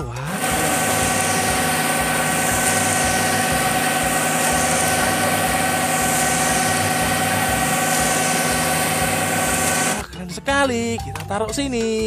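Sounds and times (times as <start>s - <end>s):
diesel engine running: 0.1s - 10.0s.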